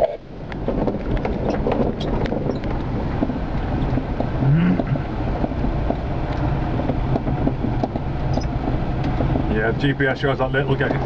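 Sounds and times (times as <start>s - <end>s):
vehicle engine driving: 0.0s - 11.0s.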